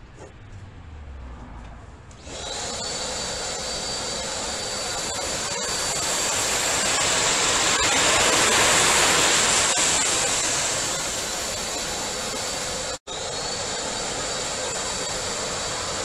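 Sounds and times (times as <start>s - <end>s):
vacuum cleaner running: 2.1s - 16.0s.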